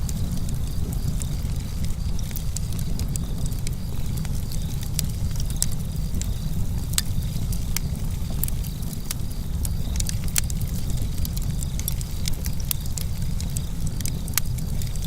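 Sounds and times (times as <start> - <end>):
campfire rumbling: 0.0 - 15.0
crickets chirping: 0.0 - 15.0
logs crackling and popping: 0.0 - 15.0.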